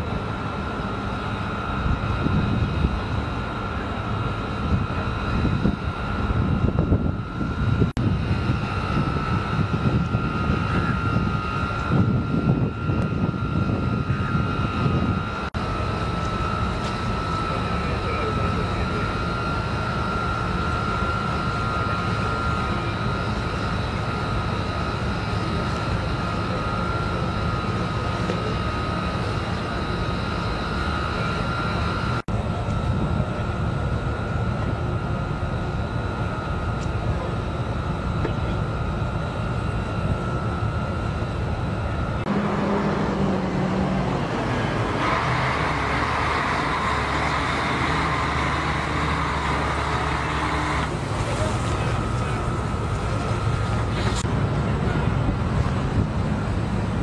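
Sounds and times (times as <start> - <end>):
bright machinery noise: 0.0 - 57.0
high whine: 0.0 - 57.0
machinery drone: 0.0 - 57.0.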